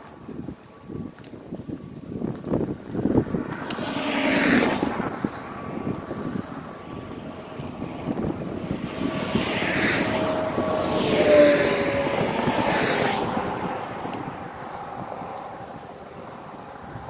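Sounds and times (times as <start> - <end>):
vehicle passing by: 2.7 - 17.0.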